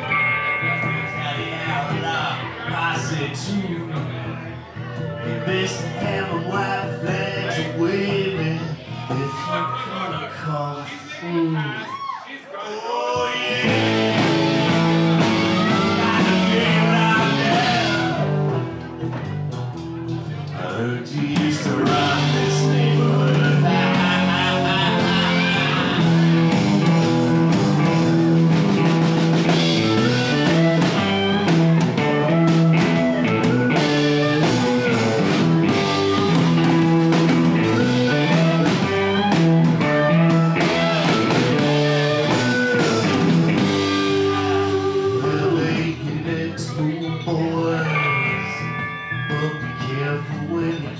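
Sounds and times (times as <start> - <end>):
electric guitar: 0.0 - 9.8, 13.4 - 50.9
bass guitar: 0.0 - 12.2, 13.2 - 50.9
drums: 0.0 - 12.3, 13.1 - 50.9.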